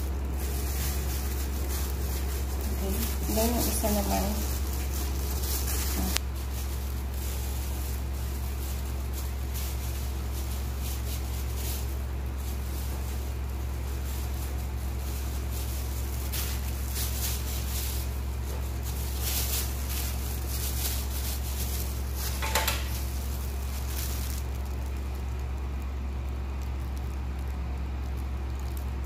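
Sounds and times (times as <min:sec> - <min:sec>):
handling noise: 0:00.0 - 0:25.5
constant hiss: 0:00.0 - 0:29.0
steady low hum: 0:00.0 - 0:29.0.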